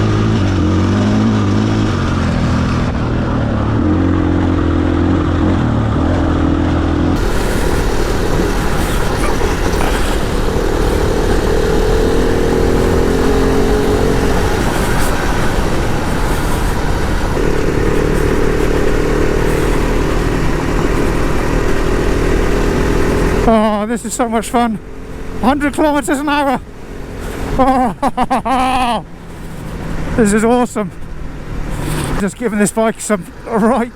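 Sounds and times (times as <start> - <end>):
motorcycle engine running: 0.0 - 30.3
wind and road noise: 0.0 - 33.9.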